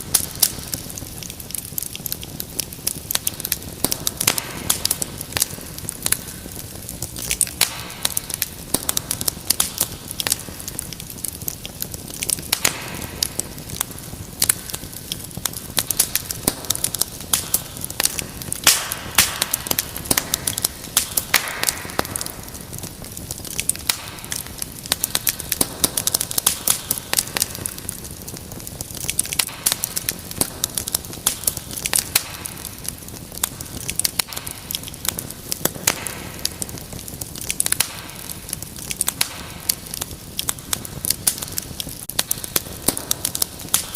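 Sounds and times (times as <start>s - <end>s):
low rumble of burning: 0.0s - 43.9s
wood fire crackling: 0.0s - 43.9s.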